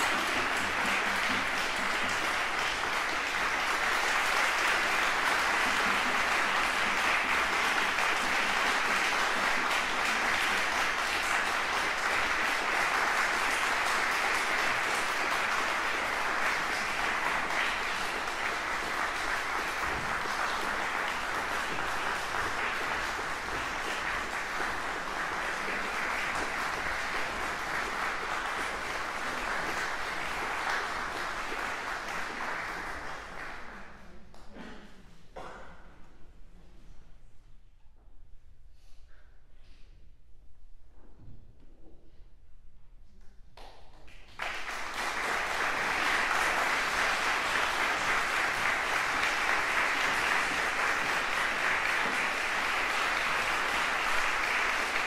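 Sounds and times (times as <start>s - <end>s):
audience applauding: 0.0s - 34.0s, 44.1s - 55.0s.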